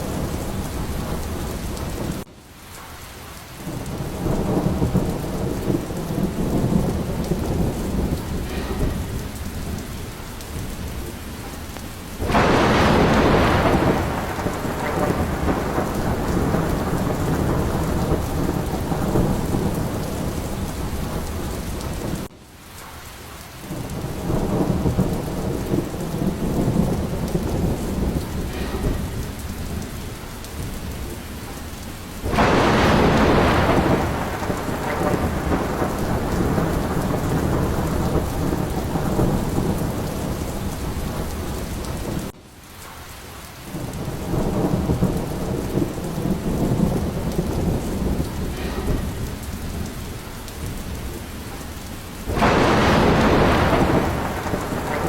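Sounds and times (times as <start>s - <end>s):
rolling thunder: 0.0s - 2.3s, 3.6s - 22.3s, 23.6s - 43.0s, 43.7s - 55.0s
heavy rain: 0.0s - 55.0s.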